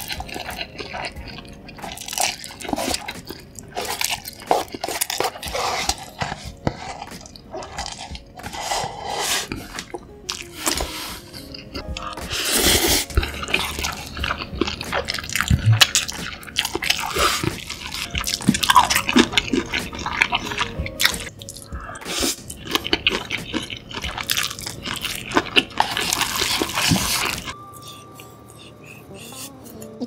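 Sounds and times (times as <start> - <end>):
man chewing noodles: 0.0 - 30.0.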